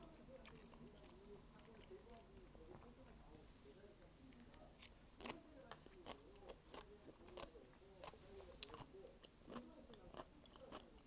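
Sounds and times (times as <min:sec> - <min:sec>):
chewing and biting: 0:00.0 - 0:11.0.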